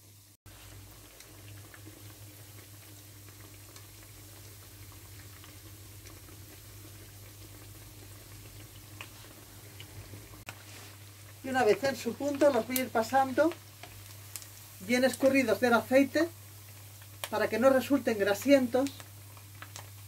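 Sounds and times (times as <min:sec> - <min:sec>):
deep-frying sizzle with pops: 0:00.0 - 0:20.0.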